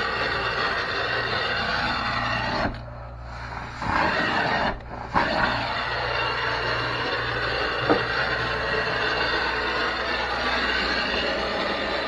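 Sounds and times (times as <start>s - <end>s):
vacuum motor running: 0.0s - 12.0s.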